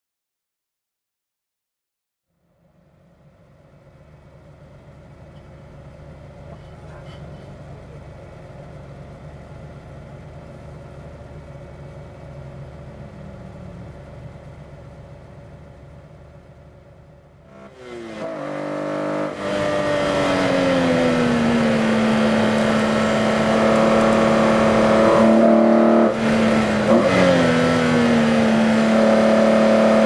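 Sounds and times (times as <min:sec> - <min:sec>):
car engine idling: 0:02.3 - 0:18.3, 0:19.7 - 0:30.0.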